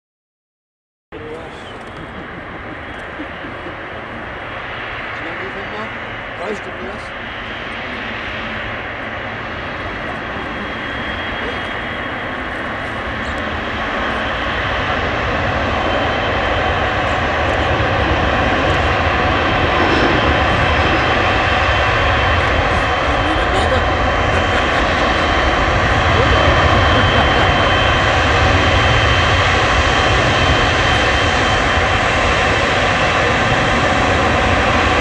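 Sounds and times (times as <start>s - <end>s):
jet engines whining and rumbling: 1.1s - 35.0s.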